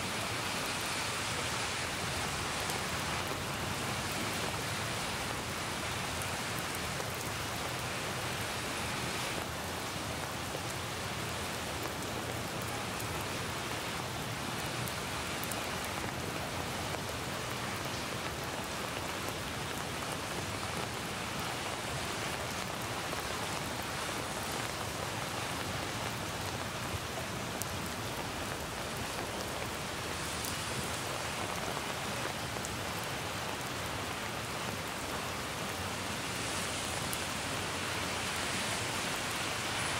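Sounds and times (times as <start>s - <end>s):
rain on leaves and pavement: 0.0s - 39.9s.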